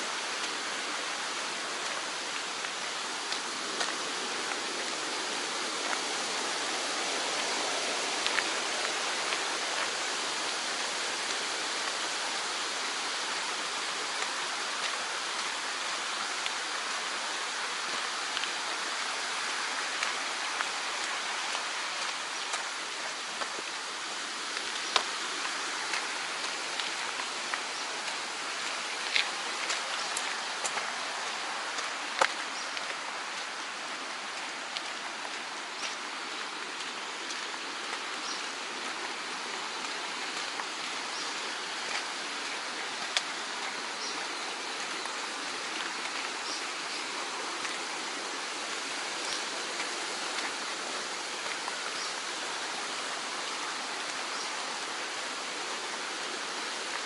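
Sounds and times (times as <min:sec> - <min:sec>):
mountain stream rushing: 0:00.0 - 0:57.0.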